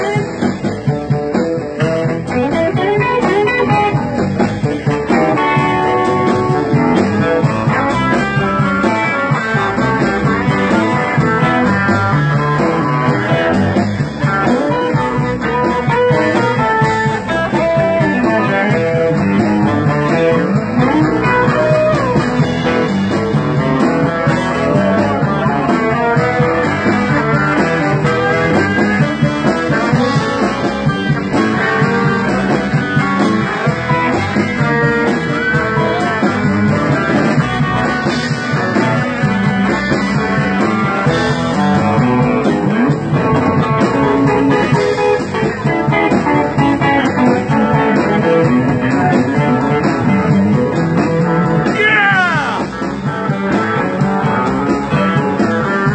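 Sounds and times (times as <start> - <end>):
blues band playing live: 0.0 - 55.9
electric guitar: 0.0 - 55.9.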